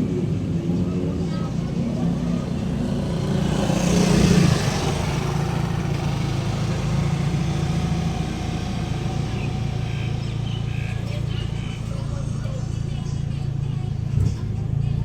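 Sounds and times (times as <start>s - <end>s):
road traffic engine hum: 0.0s - 15.0s
vehicle passing: 0.0s - 15.0s.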